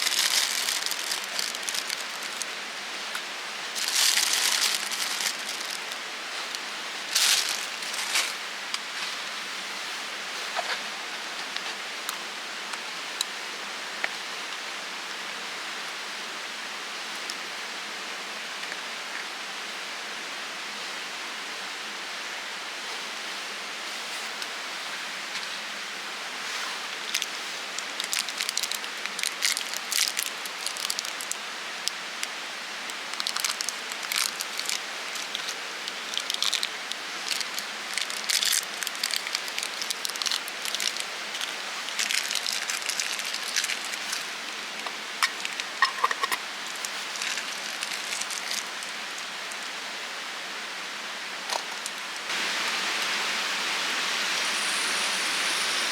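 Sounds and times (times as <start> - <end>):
campfire hissing and crackling: 0.0 - 17.7, 22.0 - 55.9.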